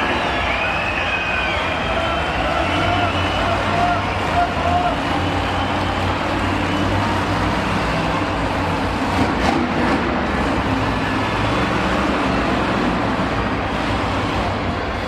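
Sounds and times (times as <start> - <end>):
truck engine running loud: 0.0 - 15.0.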